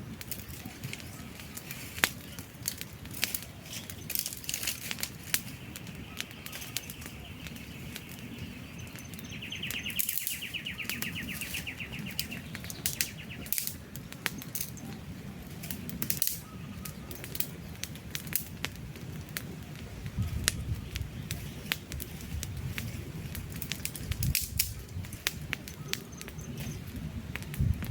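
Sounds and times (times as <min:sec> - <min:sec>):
rumble of flames: 0:00.0 - 0:27.9
wood fire crackling: 0:00.0 - 0:27.9.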